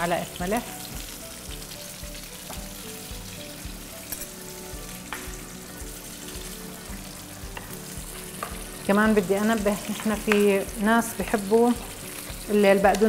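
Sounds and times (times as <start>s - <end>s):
oil sizzling in a frying pan: 0.0s - 13.0s
soft background music: 0.0s - 13.0s.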